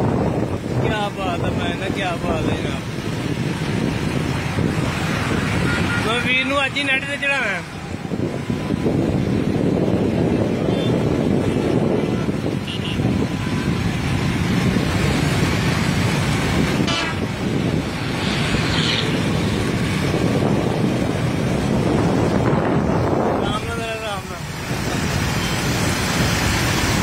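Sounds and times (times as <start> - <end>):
motorcycle engines running: 0.0 - 27.0
road and wind noise: 0.0 - 27.0.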